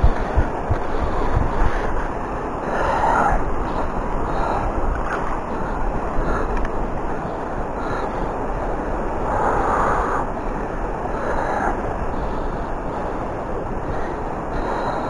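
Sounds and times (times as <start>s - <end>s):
flowing river rushing: 0.0s - 15.0s
wind buffeting microphone: 0.0s - 15.0s.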